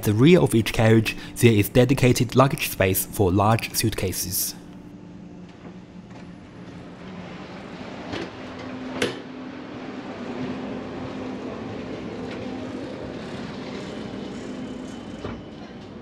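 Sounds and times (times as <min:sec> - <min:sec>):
train interior hum: 0:00.0 - 0:16.0.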